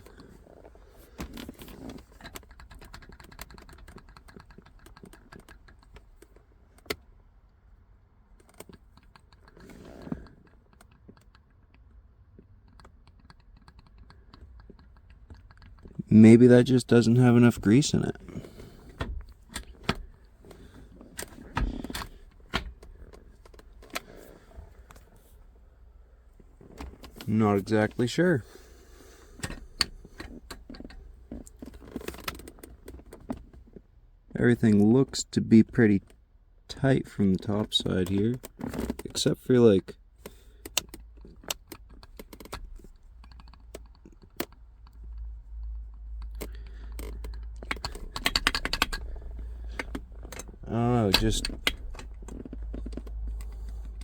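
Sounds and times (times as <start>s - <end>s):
clicks and knocks of handled parts: 0.0s - 7.1s, 8.4s - 25.5s, 26.4s - 33.8s, 40.2s - 54.0s.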